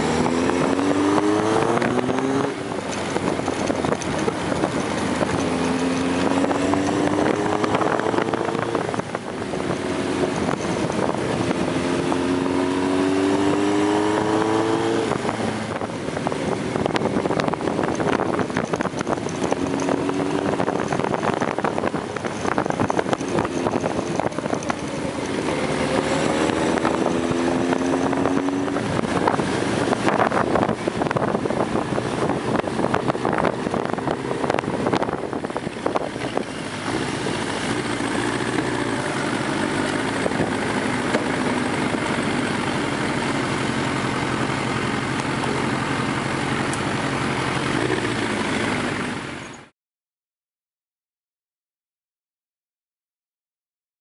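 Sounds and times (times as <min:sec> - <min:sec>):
wind rushing over microphone: 0:00.0 - 0:49.4
motorcycle engine: 0:00.0 - 0:49.7.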